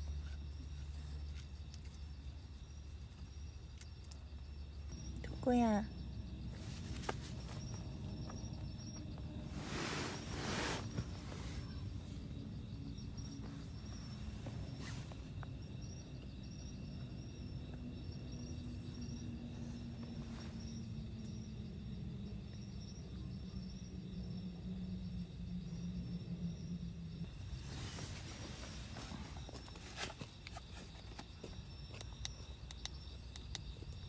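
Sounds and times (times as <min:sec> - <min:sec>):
crickets chirring: 0:00.0 - 0:34.0
low steady hum: 0:00.0 - 0:34.0.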